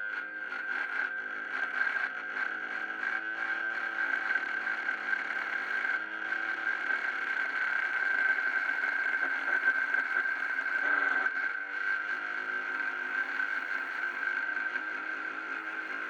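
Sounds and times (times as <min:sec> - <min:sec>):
angle grinder whining: 0:00.0 - 0:16.0.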